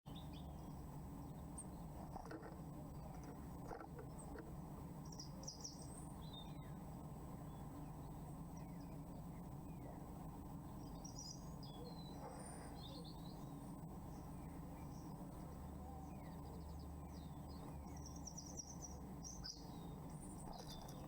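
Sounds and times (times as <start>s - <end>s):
small birds chirping: 0.1s - 21.0s
steady low hum: 0.1s - 21.0s.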